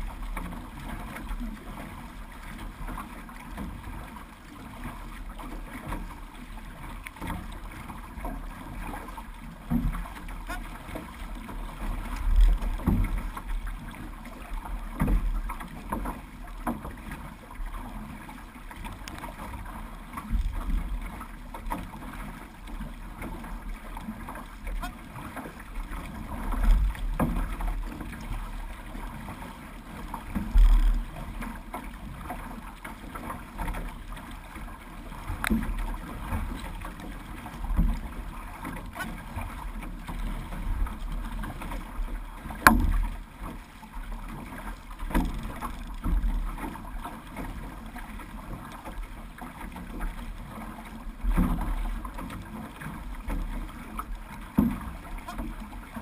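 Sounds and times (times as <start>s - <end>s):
water slapping against hull: 0.0s - 56.0s
water splashing and sloshing: 0.0s - 56.0s.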